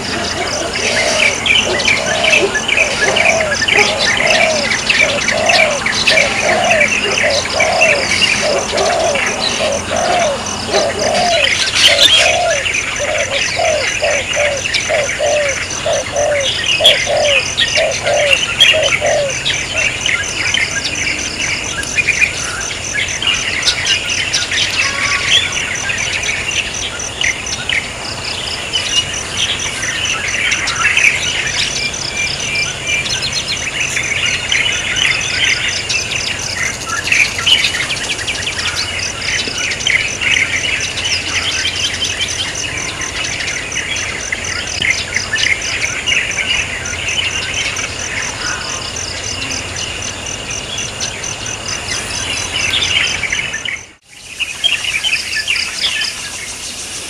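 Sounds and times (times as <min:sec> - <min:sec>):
high insect chirp: 0:00.0 - 0:57.0
small birds chirping: 0:00.0 - 0:57.0.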